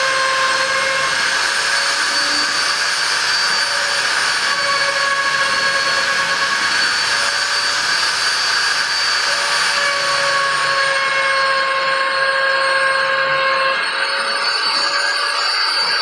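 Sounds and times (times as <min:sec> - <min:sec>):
router spindle milling with high whine: 0:00.0 - 0:16.0.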